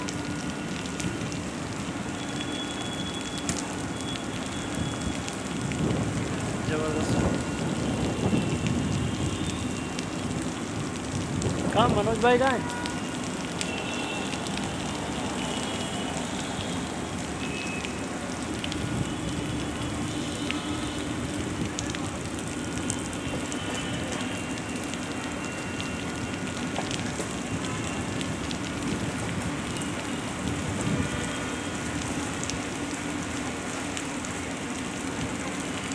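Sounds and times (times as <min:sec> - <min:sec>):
heavy rain on trees and turf: 0:00.0 - 0:35.9.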